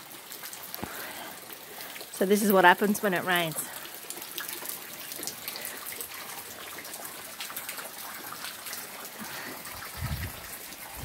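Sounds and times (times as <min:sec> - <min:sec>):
rainwater splashing and trickling: 0:00.0 - 0:11.0.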